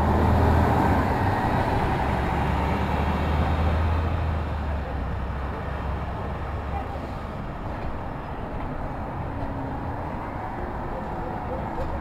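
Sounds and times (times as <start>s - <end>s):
road noise: 0.0s - 12.0s
traffic engine rumble: 0.0s - 12.0s.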